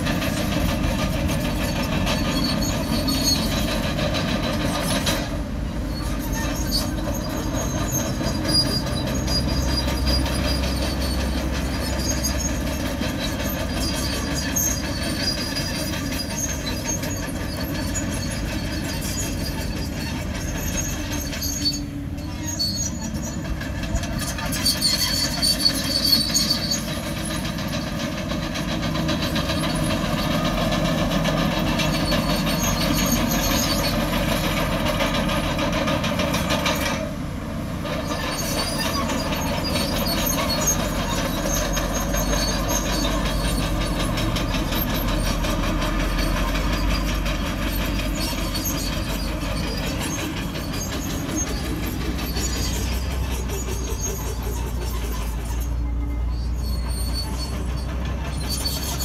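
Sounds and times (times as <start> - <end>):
bulldozer engine running: 0.0 - 59.0
steel tracks clanking: 0.0 - 59.0.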